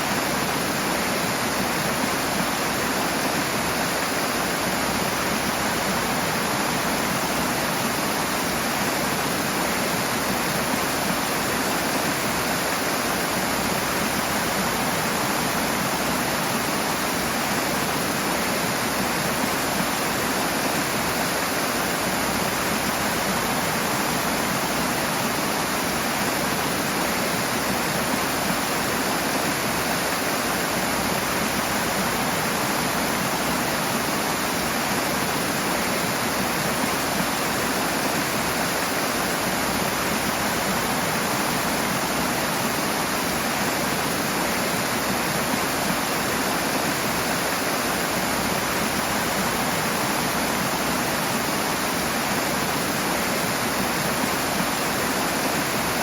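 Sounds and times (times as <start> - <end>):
fast-flowing water rushing: 0.0 - 56.0.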